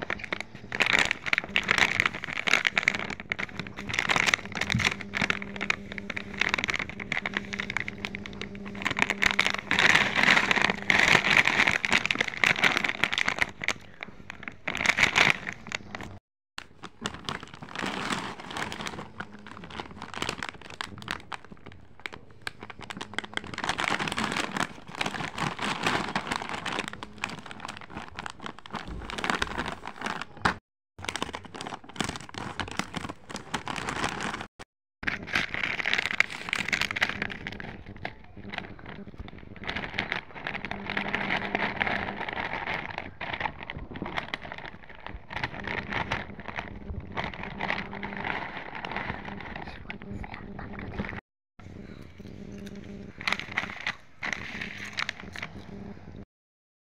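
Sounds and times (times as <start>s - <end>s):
chip packet crinkling: 0.0s - 50.0s, 51.8s - 55.6s.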